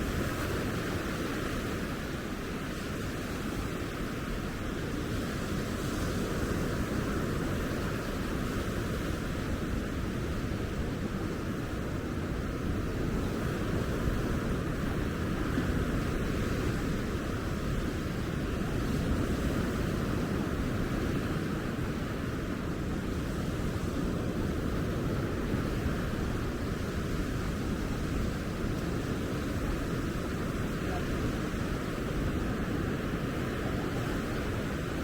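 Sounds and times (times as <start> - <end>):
ocean surf washing onto beach: 0.0 - 35.0
wind rumble on microphone: 0.0 - 35.0.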